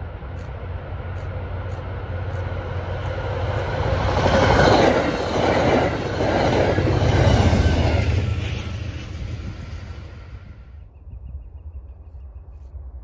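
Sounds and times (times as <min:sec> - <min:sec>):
train passing at speed: 0:00.0 - 0:11.0.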